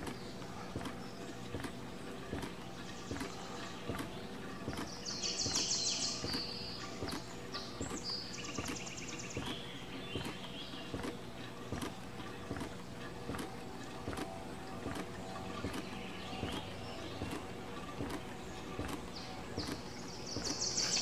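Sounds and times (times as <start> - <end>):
hummingbird buzzy chatter: 0.0 - 21.0
pulse generator knocking: 0.0 - 21.0
steady low hum: 0.0 - 21.0.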